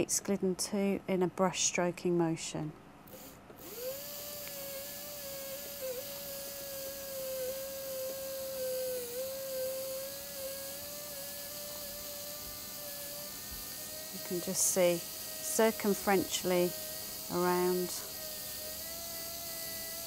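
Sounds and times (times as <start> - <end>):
dental drill whine: 3.1 - 20.0.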